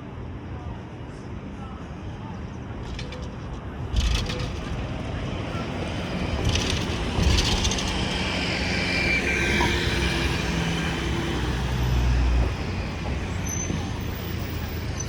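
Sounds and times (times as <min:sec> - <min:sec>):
large vehicle engine hum: 0:00.0 - 0:15.0.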